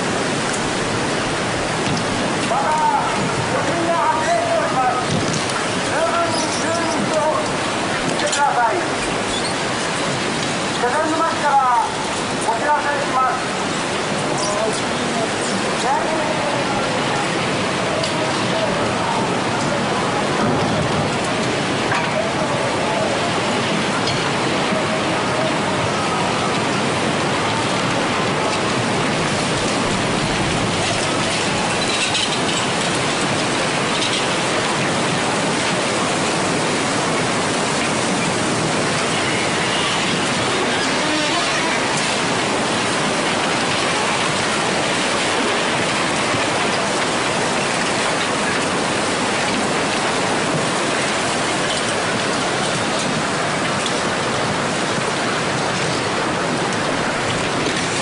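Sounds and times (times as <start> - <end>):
floodwater rushing with debris: 0.0 - 58.0.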